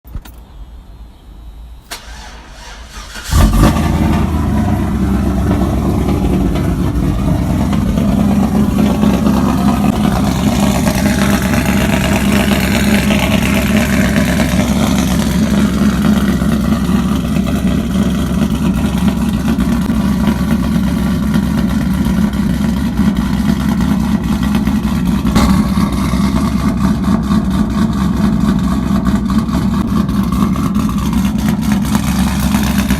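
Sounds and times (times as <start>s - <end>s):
v-eight engine starting and idling: 1.8s - 32.9s.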